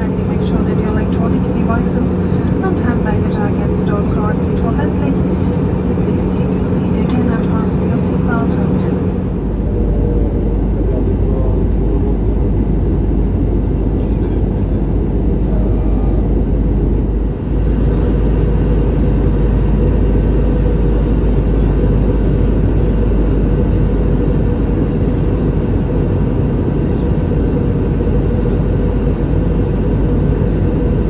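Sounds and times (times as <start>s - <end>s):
aircraft cabin rumble: 0.0s - 31.0s.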